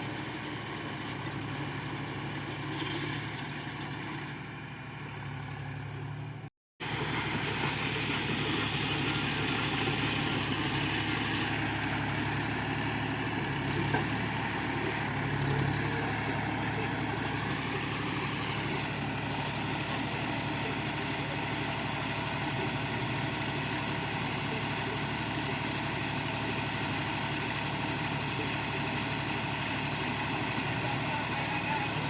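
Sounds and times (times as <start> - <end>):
round baler rolling straw: 0.0 - 32.0
tractor engine running: 0.0 - 32.0.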